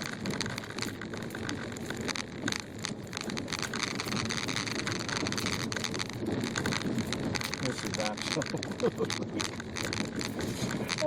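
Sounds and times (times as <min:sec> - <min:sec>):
tyres crunching in snow: 0:00.0 - 0:11.0.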